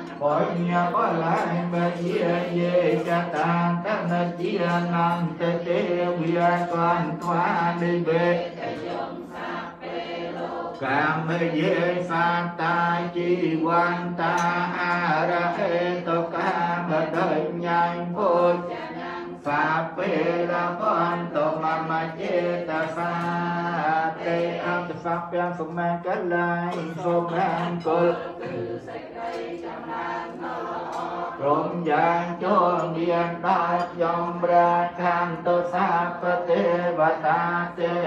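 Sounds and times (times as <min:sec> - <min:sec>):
voices chanting in unison: 0:00.0 - 0:38.0.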